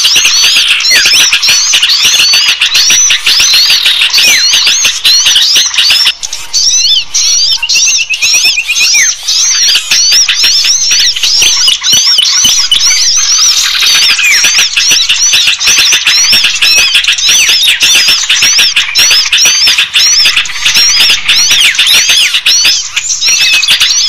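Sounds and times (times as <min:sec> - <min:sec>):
fast ticking bird notes: 0:00.0 - 0:24.0
small birds chirping: 0:00.0 - 0:24.0.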